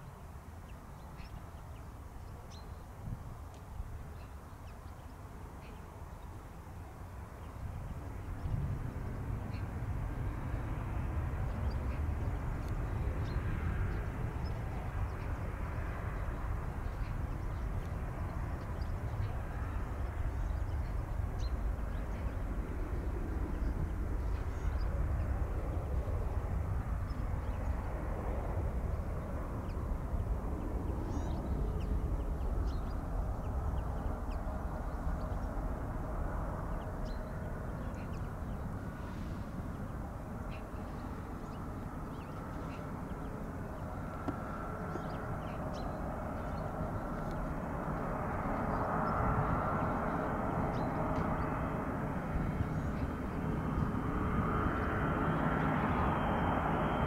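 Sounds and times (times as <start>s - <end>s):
jet engines rumbling: 5.3s - 57.0s.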